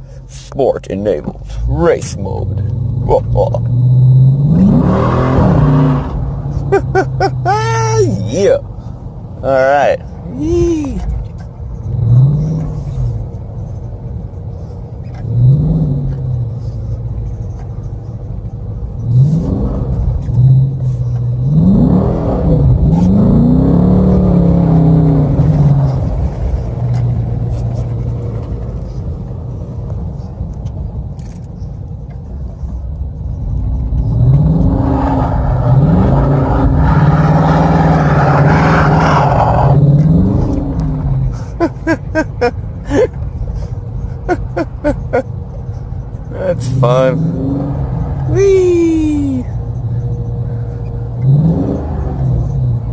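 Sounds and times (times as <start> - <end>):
car engine revving: 0.3 - 13.8, 14.6 - 18.0, 18.9 - 29.7, 33.2 - 52.9.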